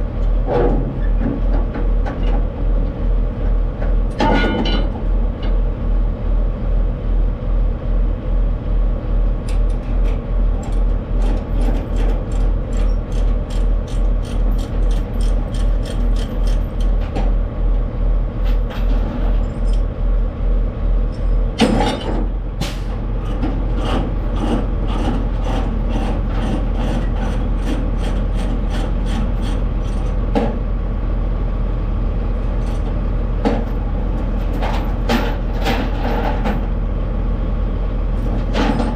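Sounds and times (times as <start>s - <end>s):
truck engine and road drone: 0.0s - 38.9s.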